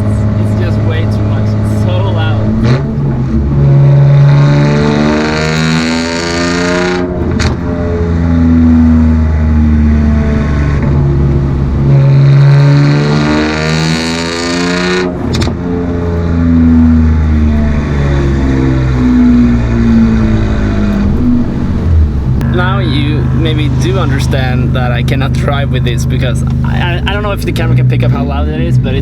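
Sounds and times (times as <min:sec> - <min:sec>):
loud car exhaust revving: 0:00.0 - 0:29.0.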